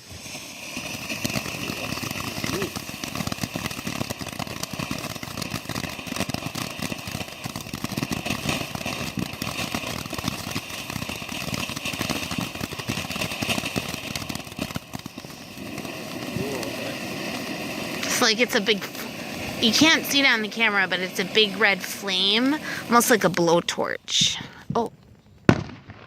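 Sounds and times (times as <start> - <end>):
firework crackling and hissing: 0.0 - 26.0.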